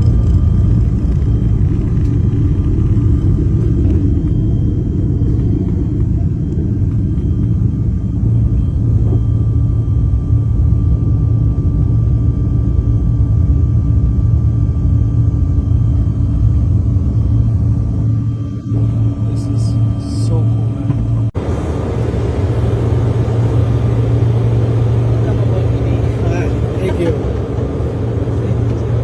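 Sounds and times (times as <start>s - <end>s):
engine whine: 0.0s - 29.0s
jet engine rumble: 0.0s - 29.0s.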